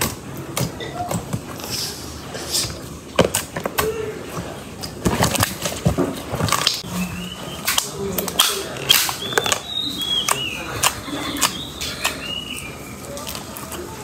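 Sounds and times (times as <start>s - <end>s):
slime squelching: 0.0s - 14.0s.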